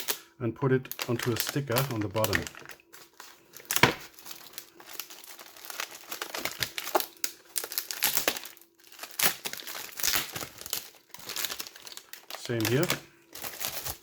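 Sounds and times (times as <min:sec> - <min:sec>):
packaging crinkling: 0:00.8 - 0:14.0.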